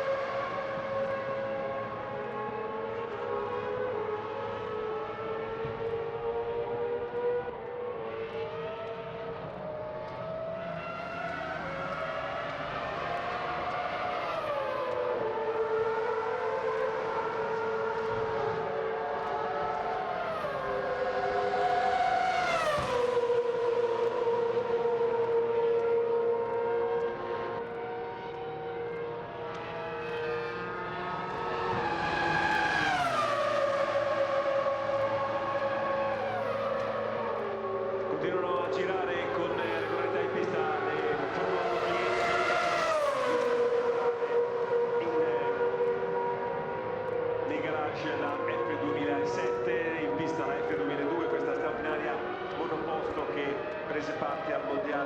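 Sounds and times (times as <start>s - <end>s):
cars passing by: 0.0s - 55.0s
racing car engines: 0.0s - 55.0s.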